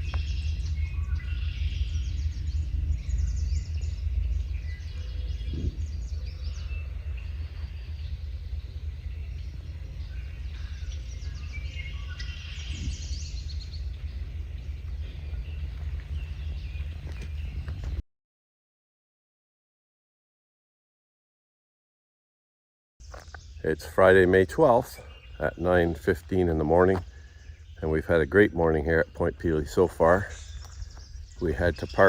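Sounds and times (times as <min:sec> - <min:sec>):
songbirds singing: 0:00.0 - 0:18.0, 0:23.0 - 0:32.0
steady low rumble: 0:00.0 - 0:18.0, 0:23.0 - 0:32.0.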